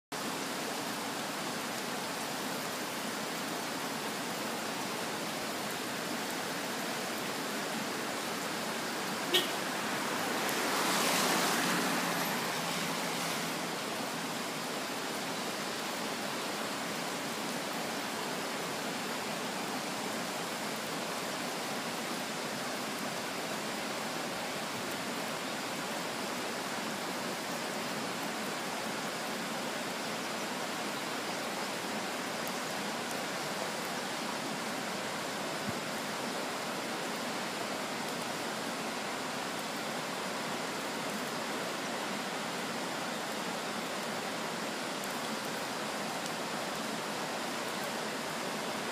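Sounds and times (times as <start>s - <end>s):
water rushing: 0.1s - 48.9s.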